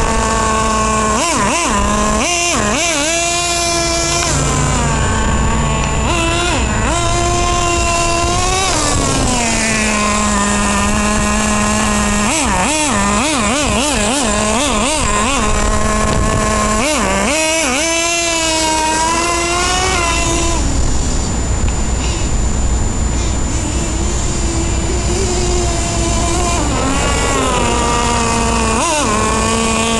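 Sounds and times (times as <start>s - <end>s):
small nitro engine revving: 0.0s - 29.9s.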